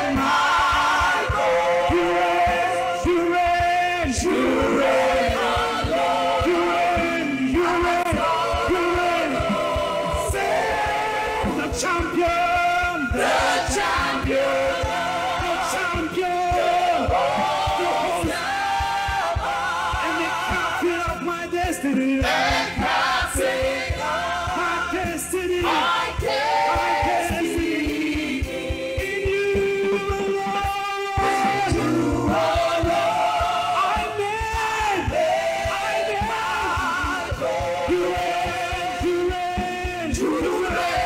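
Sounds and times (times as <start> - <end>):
gospel singing with band: 0.0 - 41.0.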